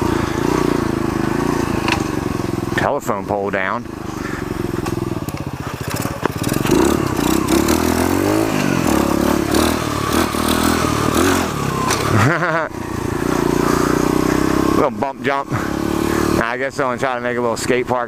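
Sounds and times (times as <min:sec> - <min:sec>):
small motorcycle engine revving: 0:00.0 - 0:18.0.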